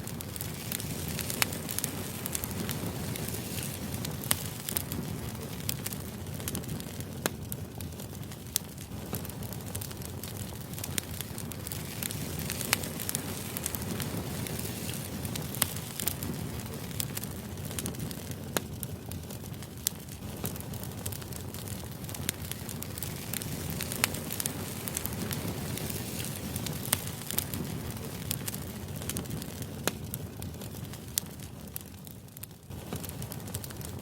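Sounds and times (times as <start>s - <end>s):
fire crackling and popping: 0.0s - 34.0s
fire rumbling: 0.0s - 34.0s.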